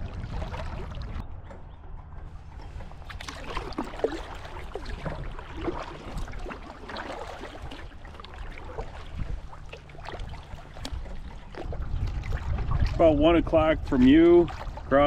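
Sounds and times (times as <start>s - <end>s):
wind on microphone: 0.0s - 6.6s, 7.2s - 15.0s
paddle splashing in water: 0.0s - 15.0s.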